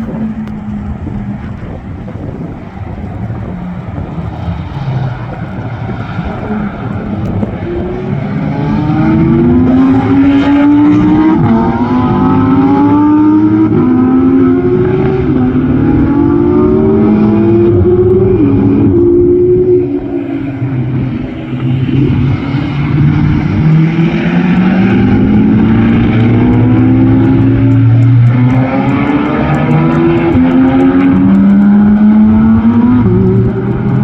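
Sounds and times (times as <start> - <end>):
car engine accelerating hard: 0.0 - 34.0.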